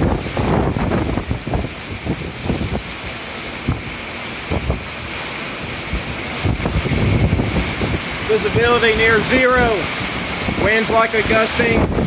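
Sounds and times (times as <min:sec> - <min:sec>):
heavy rain: 0:00.0 - 0:12.0
storm wind gusting: 0:00.0 - 0:12.0
wind buffeting on microphone: 0:00.0 - 0:12.0.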